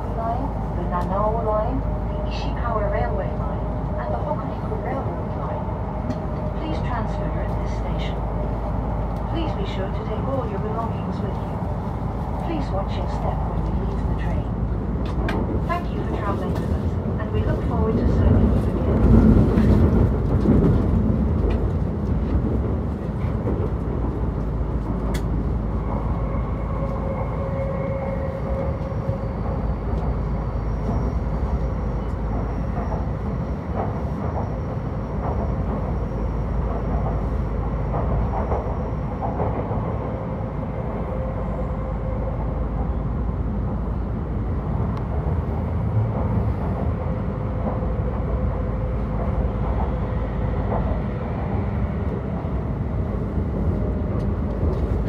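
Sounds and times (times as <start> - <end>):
train cabin rumble: 0.0 - 55.0.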